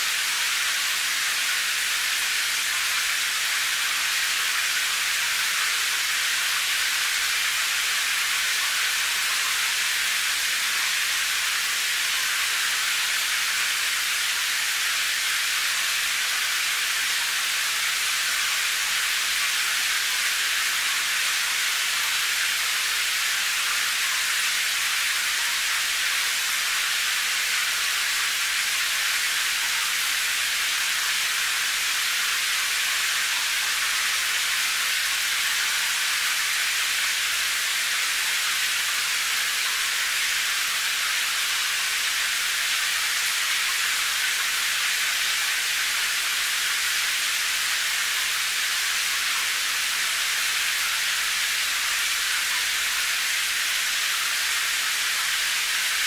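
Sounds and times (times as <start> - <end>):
rain hissing: 0.0 - 56.0.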